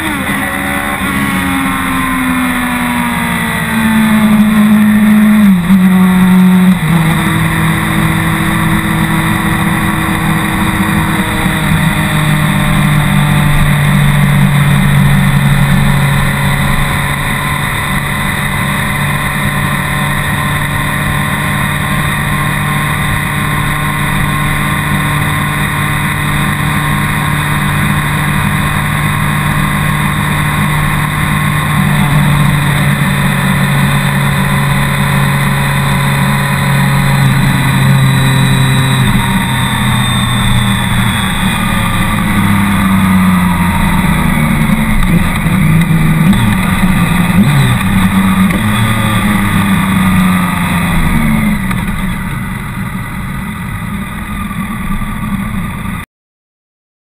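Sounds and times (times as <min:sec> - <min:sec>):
motorcycle engine running: 0:00.0 - 0:56.0
wind and road rush: 0:00.0 - 0:56.0.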